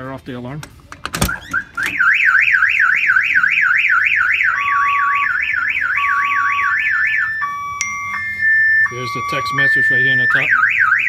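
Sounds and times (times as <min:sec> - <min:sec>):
car alarm siren warbling: 0:01.3 - 0:11.0.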